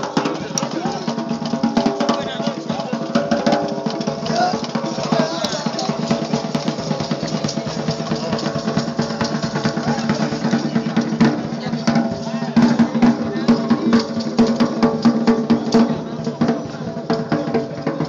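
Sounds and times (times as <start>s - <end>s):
fast steady drumming: 0.0s - 18.0s.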